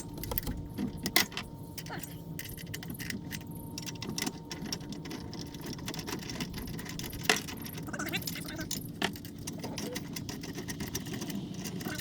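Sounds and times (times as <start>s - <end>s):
metal parts clicking and clattering: 0.0s - 12.0s.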